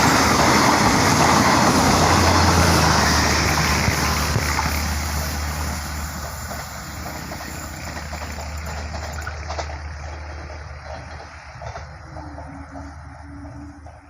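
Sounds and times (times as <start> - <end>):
diesel train engine hum: 0.0 - 14.0.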